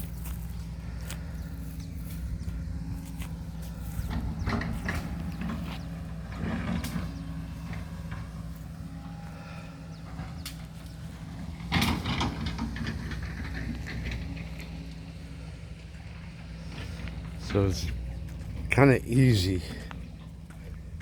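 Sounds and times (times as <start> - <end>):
backhoe engine running: 0.0 - 21.0.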